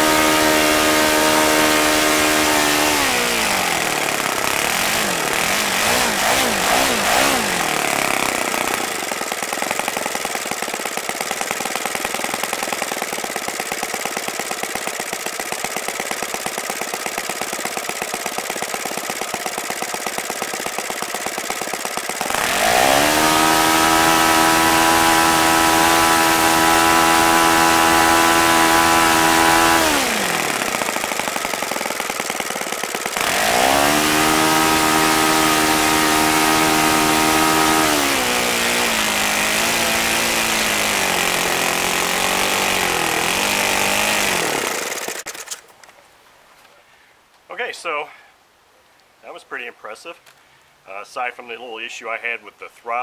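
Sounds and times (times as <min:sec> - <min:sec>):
model airplane engine revving and idling: 0:00.0 - 0:45.6.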